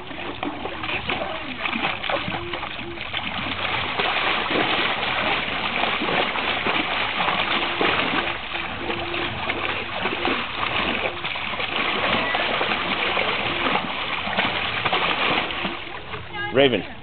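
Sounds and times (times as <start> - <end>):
dog splashing in water: 0.0 - 16.3.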